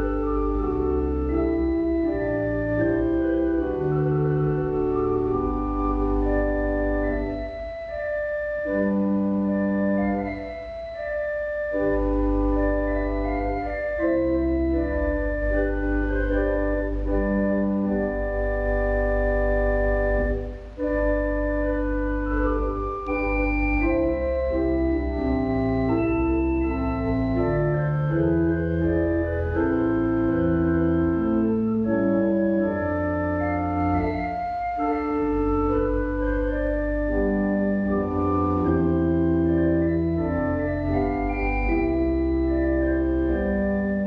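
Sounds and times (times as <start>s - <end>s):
organ playing held chords: 0.0s - 44.0s.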